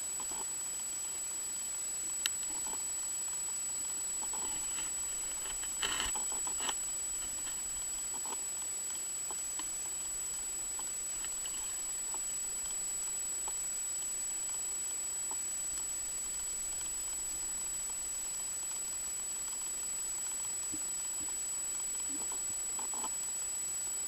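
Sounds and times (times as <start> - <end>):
underwater hiss with high whine: 0.0 - 24.0
faint underwater clicks: 0.1 - 24.0.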